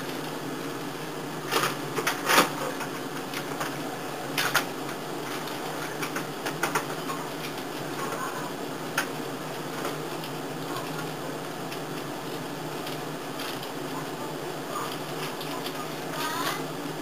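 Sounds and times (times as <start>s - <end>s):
tape transport whirring: 0.0s - 17.0s.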